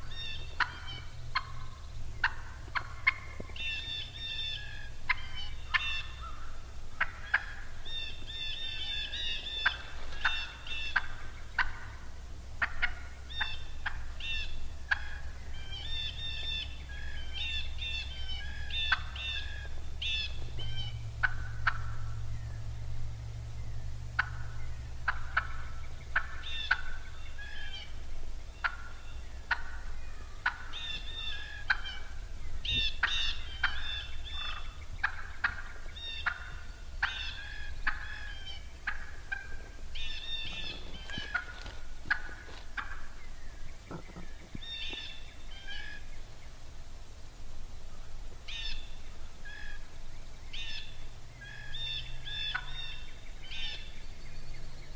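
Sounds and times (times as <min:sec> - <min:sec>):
turkey hen clucking and yelping: 0:00.0 - 0:46.4, 0:47.9 - 0:54.8.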